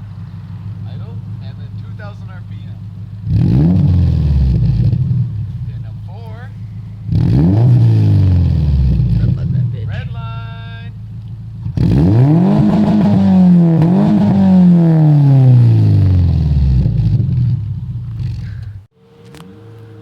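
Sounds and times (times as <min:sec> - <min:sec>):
car engine revving hard: 0:00.0 - 0:05.8, 0:06.5 - 0:10.2, 0:11.0 - 0:18.6.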